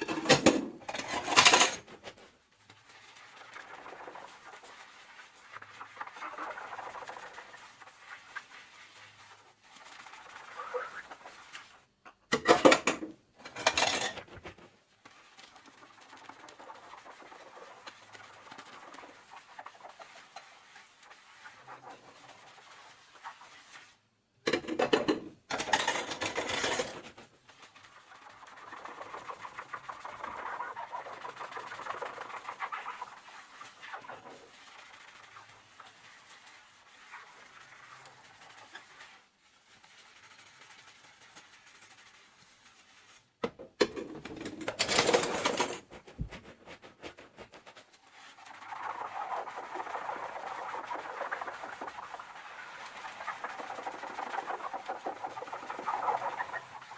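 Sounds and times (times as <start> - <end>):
sponge scrubbing dishes: 0.0 - 56.9.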